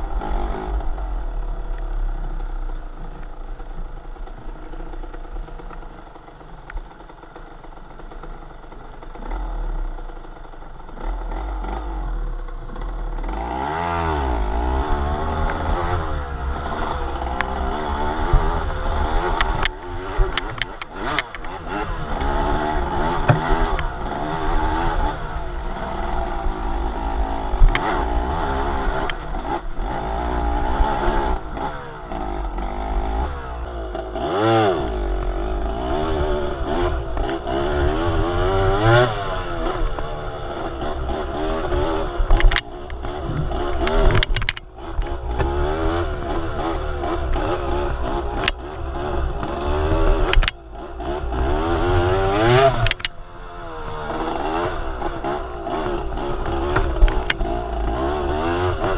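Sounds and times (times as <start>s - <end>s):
vehicle engine rumbling: 0.0s - 58.9s.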